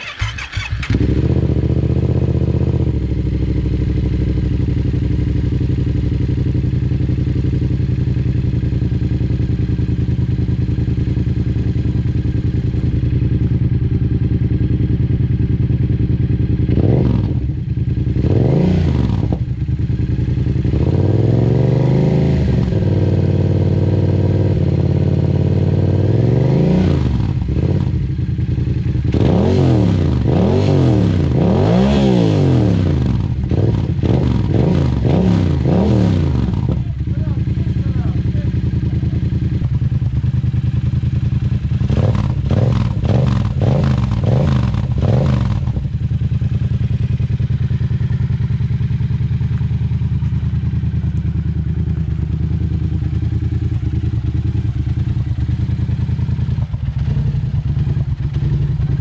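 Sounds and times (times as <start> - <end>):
motorcycle engine idling: 0.0 - 21.7, 22.4 - 31.4, 32.7 - 59.0
motorcycle engine revving: 0.0 - 59.0.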